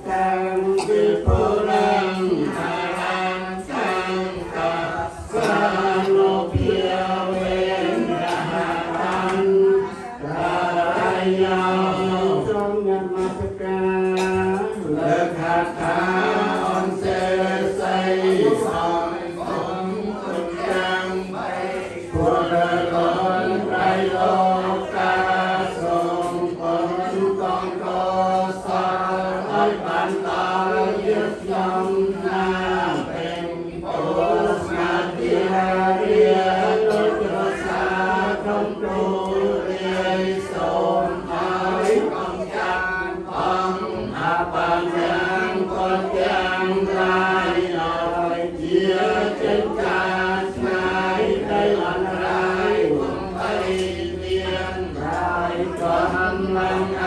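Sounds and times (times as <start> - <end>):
group chanting in unison: 0.0 - 57.0.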